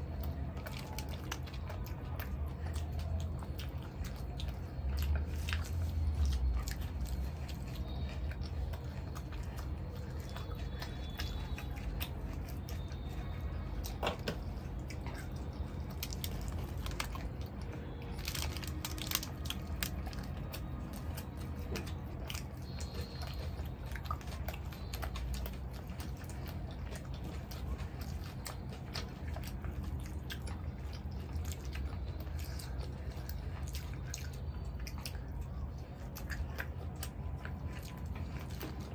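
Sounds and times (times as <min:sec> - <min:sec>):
people chewing food: 0:00.0 - 0:38.9.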